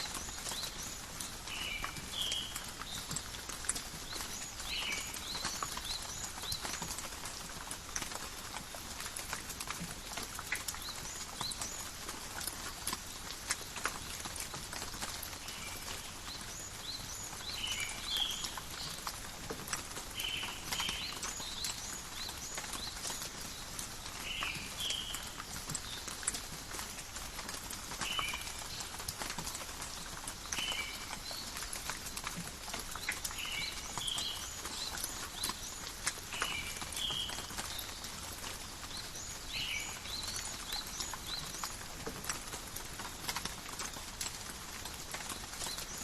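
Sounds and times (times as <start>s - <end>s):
light rain on leaves: 0.0s - 46.0s.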